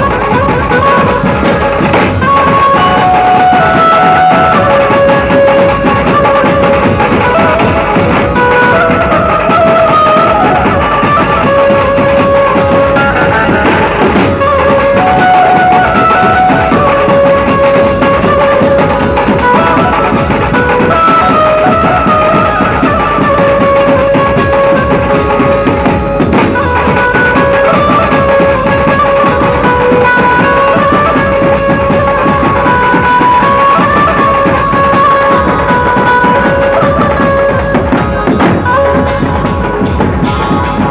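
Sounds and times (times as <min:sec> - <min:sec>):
band playing loud: 0:00.0 - 0:40.9
driving drumming: 0:00.0 - 0:40.9.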